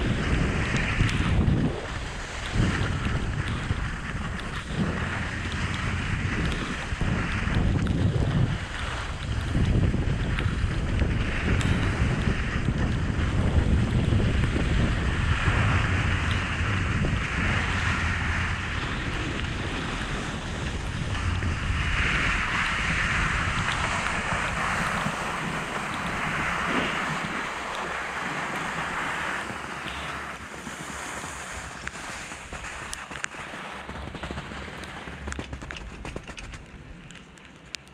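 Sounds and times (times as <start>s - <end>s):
skis hissing over packed snow: 0.0s - 33.9s
wind buffeting microphone: 0.0s - 37.9s.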